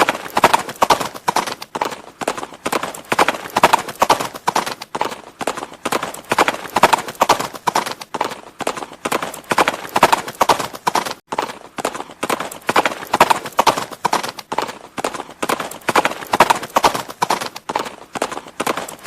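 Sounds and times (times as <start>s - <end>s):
horse hooves on hard ground: 0.0s - 19.0s.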